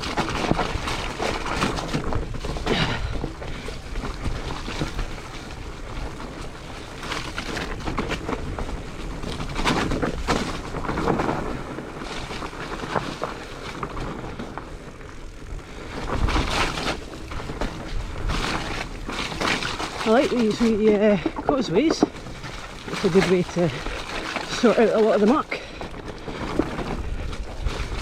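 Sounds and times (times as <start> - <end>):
bike knocking and rattling: 0.0 - 28.0
bike tyres on rough trail: 0.0 - 28.0
wind rumbling on microphone: 0.0 - 28.0.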